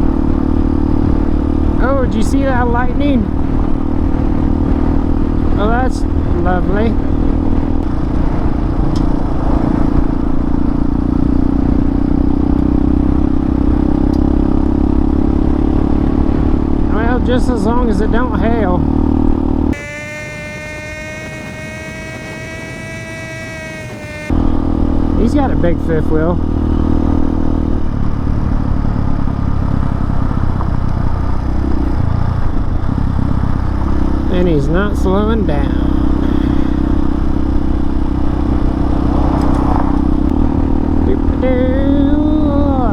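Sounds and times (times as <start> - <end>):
motorcycle engine cruising: 0.0 - 42.9
road and wind noise: 0.0 - 42.9.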